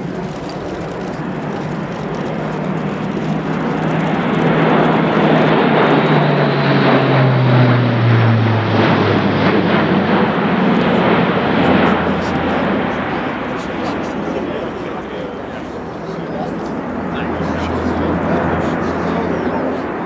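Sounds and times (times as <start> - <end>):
propeller aircraft passing: 0.0 - 20.0.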